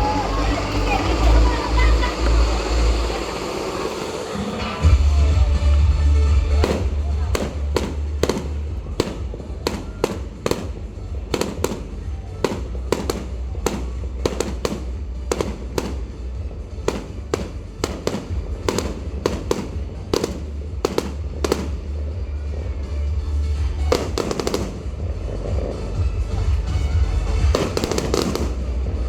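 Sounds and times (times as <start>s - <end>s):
fireworks bursting: 0.0s - 29.0s
music playing: 0.0s - 29.0s.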